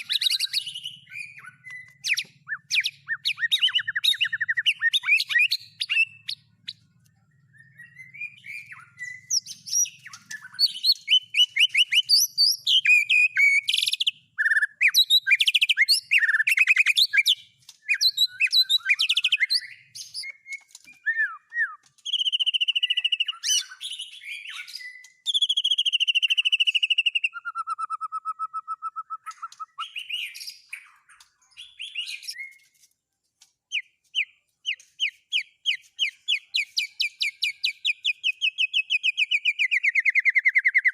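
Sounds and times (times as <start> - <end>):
songbird chirps and trills: 0.0 - 40.9.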